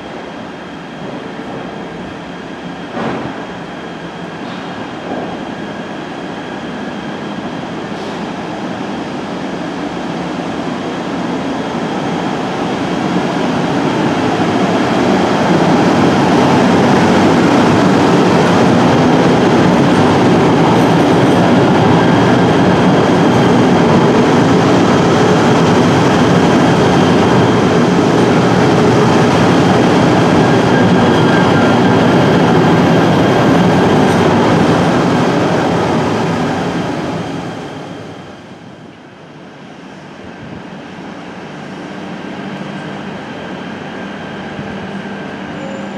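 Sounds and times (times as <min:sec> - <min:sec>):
train wheels on rail: 0:00.0 - 0:45.9.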